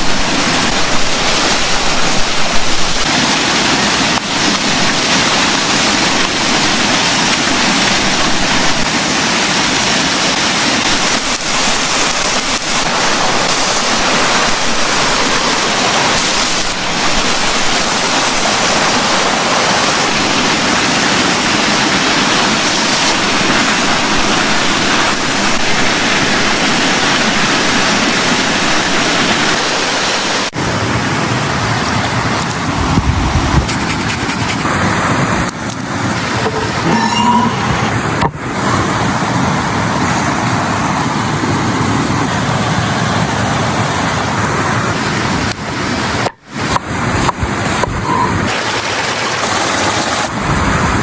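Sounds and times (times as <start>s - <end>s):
rushing flowing water: 0.0s - 51.0s.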